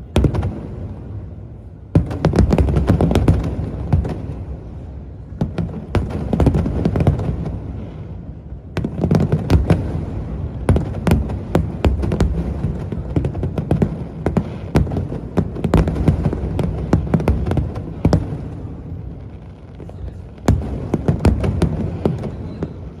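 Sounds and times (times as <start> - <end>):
fireworks cracking and booming: 0.0 - 23.0.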